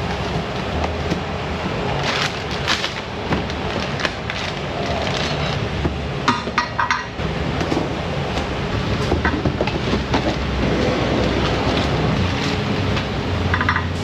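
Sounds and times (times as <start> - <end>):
steady background rumble: 0.0 - 14.0.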